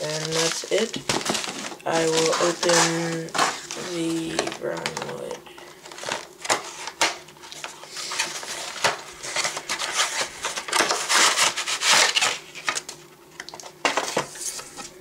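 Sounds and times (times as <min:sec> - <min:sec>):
packaging ripping and crinkling: 0:00.0 - 0:14.9.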